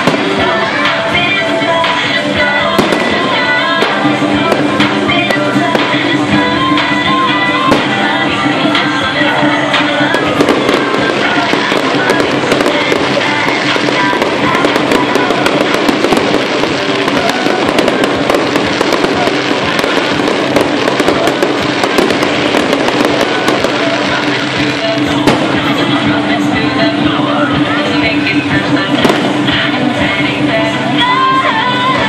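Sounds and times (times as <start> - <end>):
fireworks crackling: 0.0 - 32.0
music playing: 0.0 - 32.0.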